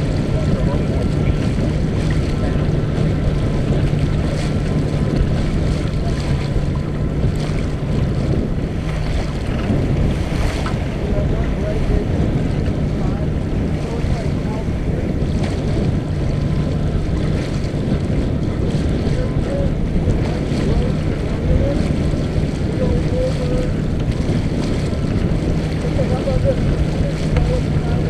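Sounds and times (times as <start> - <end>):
steady low hum: 0.0 - 28.0
water rushing along hull: 0.0 - 28.0
wind buffeting microphone: 0.0 - 28.0.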